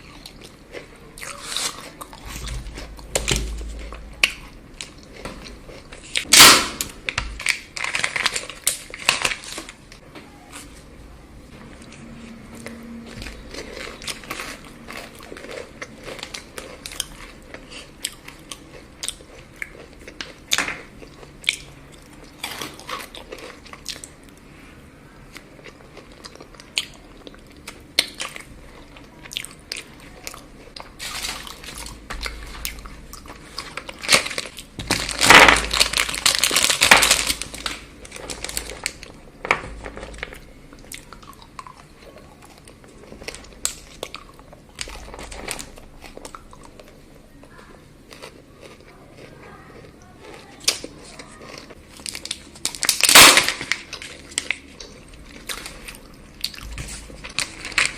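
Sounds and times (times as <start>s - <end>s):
chocolate crunching and chewing: 0.0s - 10.8s, 11.6s - 24.5s, 25.2s - 57.9s.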